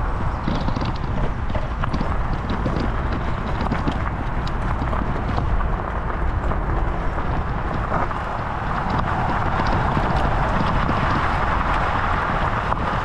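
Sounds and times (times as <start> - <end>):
bike tyres crunching on gravel: 0.0 - 13.0
wind rumbling on microphone: 0.0 - 13.0.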